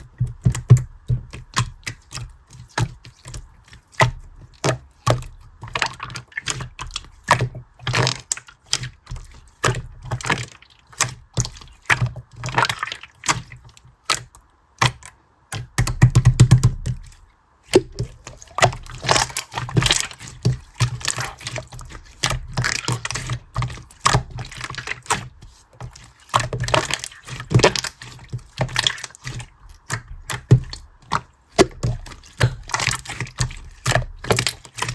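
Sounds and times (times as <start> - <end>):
quick irregular clicks and taps: 0.0 - 34.9.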